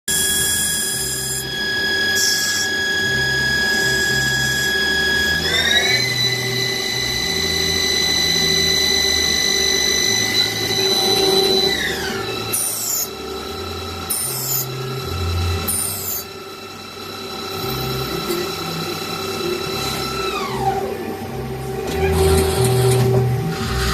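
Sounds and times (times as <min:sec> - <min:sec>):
lathe machine whine: 0:00.1 - 0:23.9
mechanical rumble: 0:00.4 - 0:23.9.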